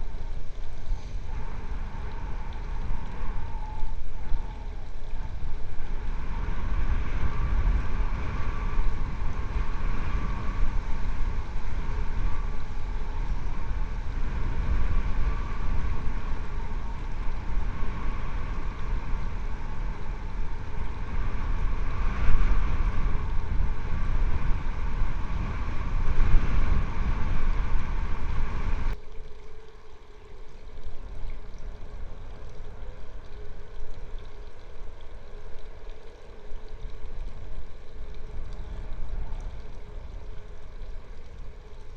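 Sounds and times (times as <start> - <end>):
faint steady hum: 0.0 - 41.9
low rumble: 0.0 - 41.9.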